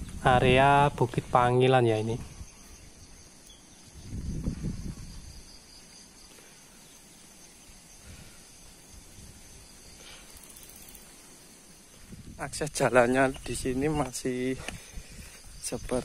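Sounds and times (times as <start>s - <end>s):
insect chorus: 0.0s - 16.0s
pulsing insect buzz: 1.5s - 15.7s.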